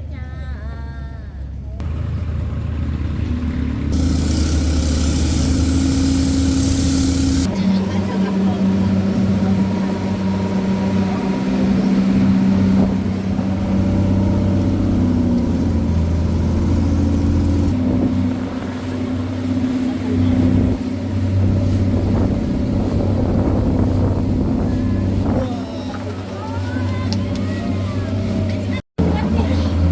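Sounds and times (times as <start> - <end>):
motorboat engine running: 1.8 - 29.9.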